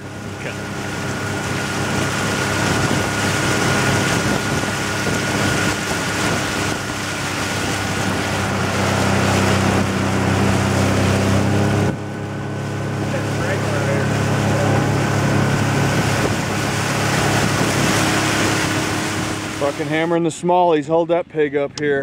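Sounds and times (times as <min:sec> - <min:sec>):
outboard motor running: 0:00.0 - 0:22.0
wind buffeting microphone: 0:00.0 - 0:22.0.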